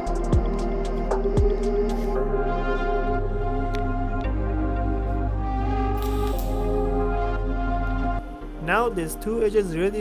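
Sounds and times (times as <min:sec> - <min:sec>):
sustained tone music: 0:00.0 - 0:10.0.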